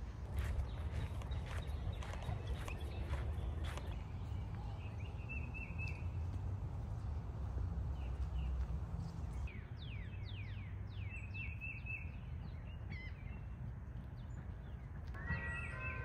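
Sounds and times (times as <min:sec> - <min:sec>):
birds singing: 0:00.4 - 0:06.3, 0:07.9 - 0:16.0.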